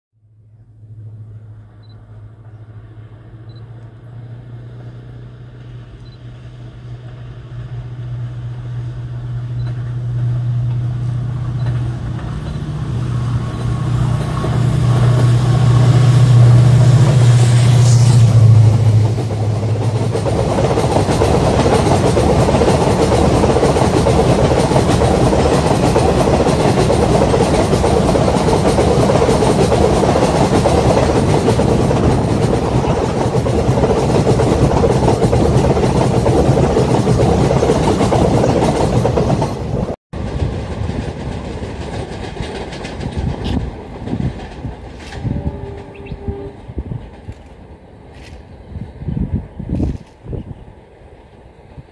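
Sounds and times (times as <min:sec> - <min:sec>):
locomotive engine drone: 0:00.2 - 0:51.8
train wheels rushing on rails: 0:02.4 - 0:51.9.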